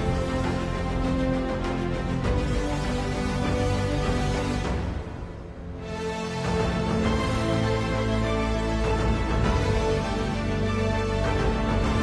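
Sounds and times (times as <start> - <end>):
background music with held tones: 0.0 - 12.0.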